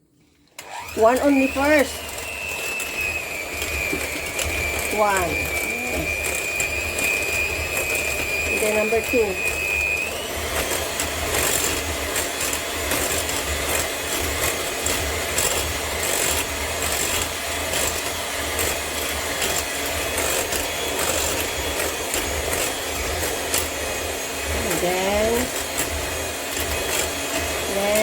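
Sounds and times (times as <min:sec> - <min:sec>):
batter scraping in a bowl: 0:01.0 - 0:28.0.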